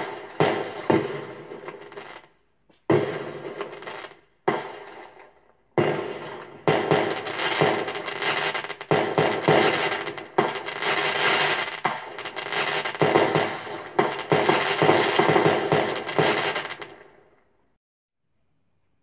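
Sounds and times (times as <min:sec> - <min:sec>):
firework bangs with crackle: 0:00.0 - 0:17.2.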